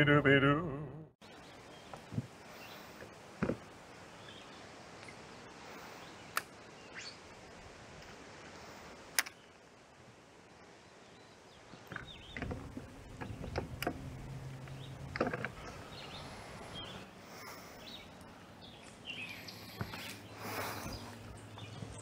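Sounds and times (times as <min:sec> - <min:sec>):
birds chirping faintly: 0:01.2 - 0:22.0.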